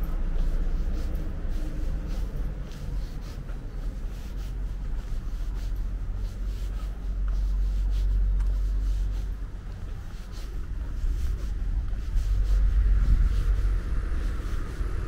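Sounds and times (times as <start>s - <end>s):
faint footsteps on pavement: 0.0s - 15.0s
low steady street rumble: 0.0s - 15.0s.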